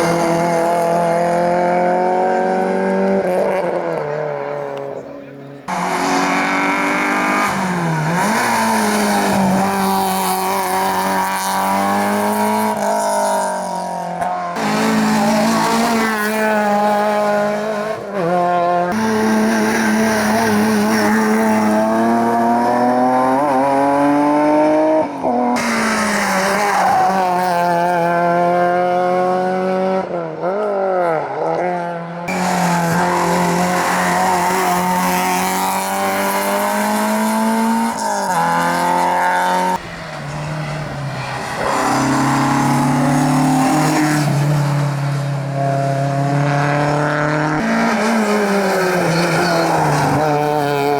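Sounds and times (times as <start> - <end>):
racing car engines revving: 0.0 - 50.9.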